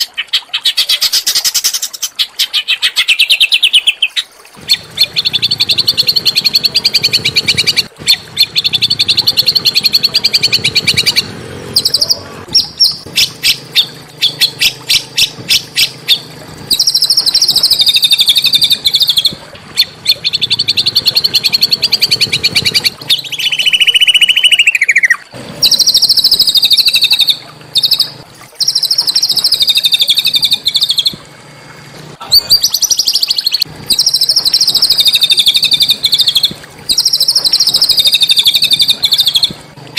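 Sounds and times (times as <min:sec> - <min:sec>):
songbird singing harsh trills: 0:00.2 - 0:31.2, 0:32.2 - 0:39.6.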